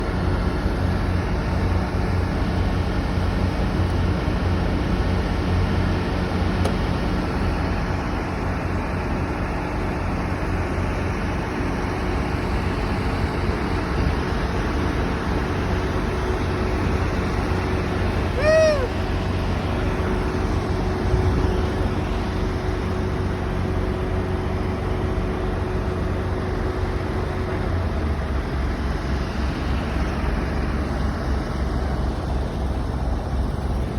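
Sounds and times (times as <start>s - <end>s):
low engine rumble: 0.0s - 33.9s.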